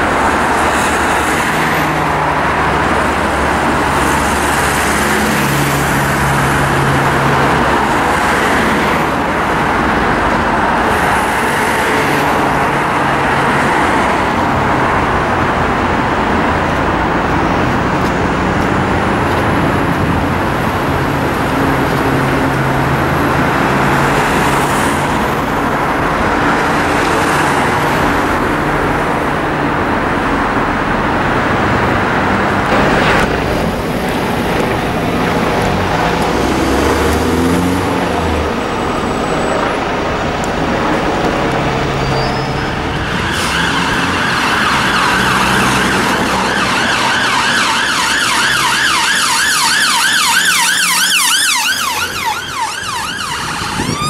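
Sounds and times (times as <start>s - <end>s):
emergency siren wailing: 0.0s - 54.0s
road traffic hum: 0.0s - 54.0s.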